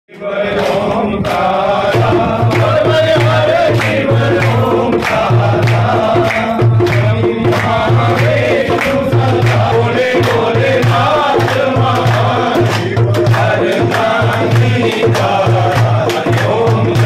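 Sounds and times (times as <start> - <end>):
devotional chant-like singing: 0.1 - 17.0
music with pulsing beat: 2.0 - 17.0.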